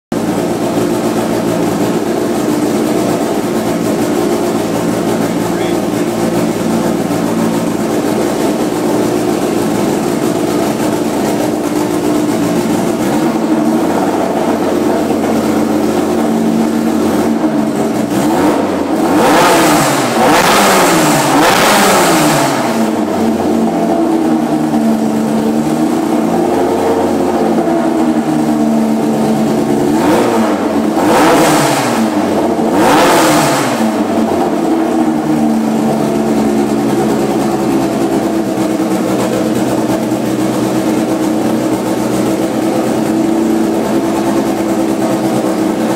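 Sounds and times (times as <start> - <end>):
race car engine idling: 0.1 - 45.9
engine revving in throttle blips: 1.8 - 45.9.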